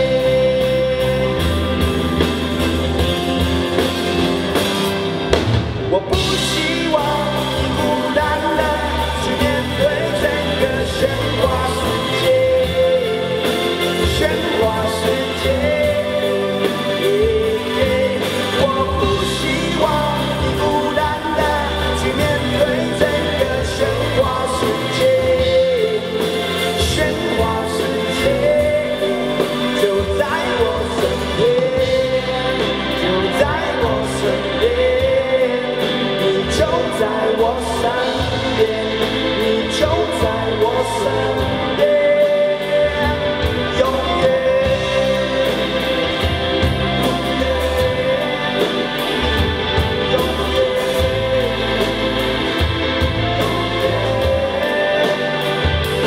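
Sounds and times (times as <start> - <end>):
man singing: 0.0 - 56.0
pop-rock band playing: 0.0 - 56.0.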